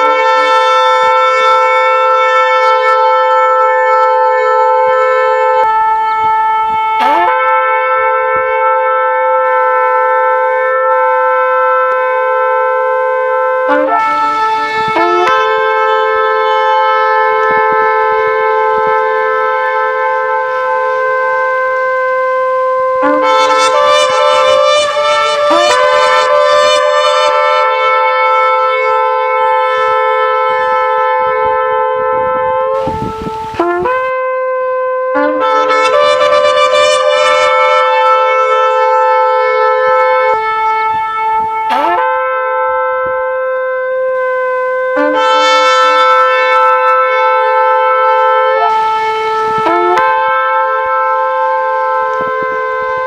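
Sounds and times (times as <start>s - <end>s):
shofar blasts: 0.0s - 53.0s.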